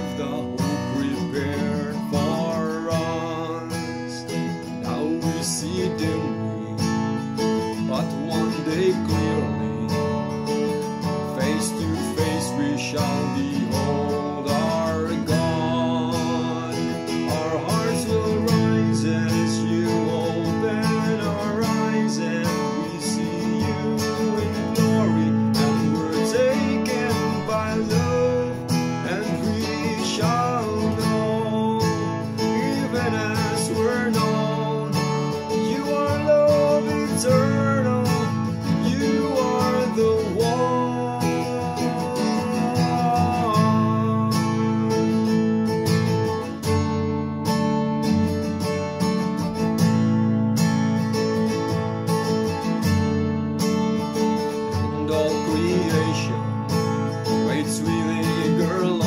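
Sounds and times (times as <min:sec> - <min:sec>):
man singing: 0:00.0 - 0:47.1, 0:53.8 - 0:59.0
acoustic guitar strumming: 0:00.0 - 0:59.0.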